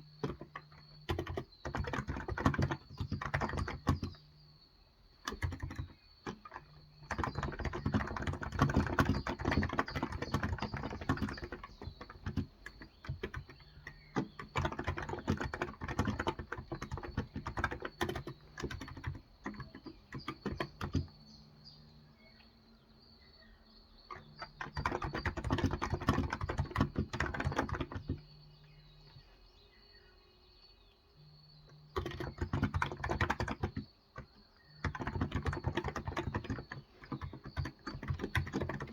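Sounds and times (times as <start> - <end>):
keyboard typing: 0.0 - 4.4, 5.1 - 22.0, 24.1 - 29.2, 31.7 - 38.9.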